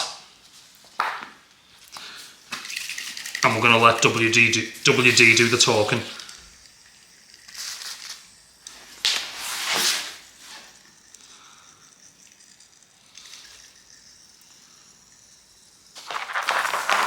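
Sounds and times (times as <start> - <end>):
aerosol spray hissing: 2.2 - 16.2.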